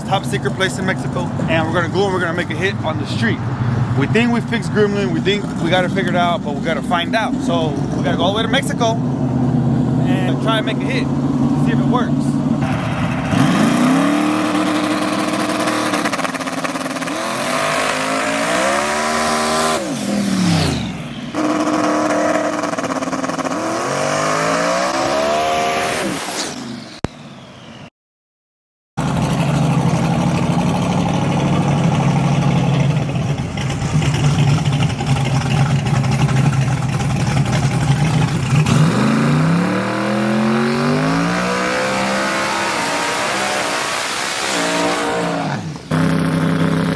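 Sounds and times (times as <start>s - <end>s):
truck engine revving: 0.0s - 26.8s, 29.0s - 46.9s.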